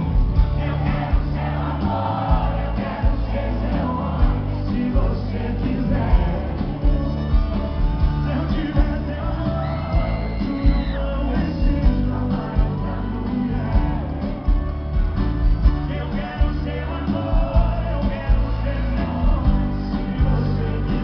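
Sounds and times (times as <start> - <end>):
live band music with singing: 0.0 - 21.0.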